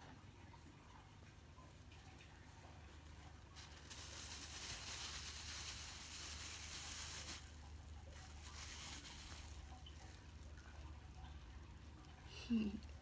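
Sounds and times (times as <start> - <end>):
cloth and plastic rustling: 1.8 - 13.0.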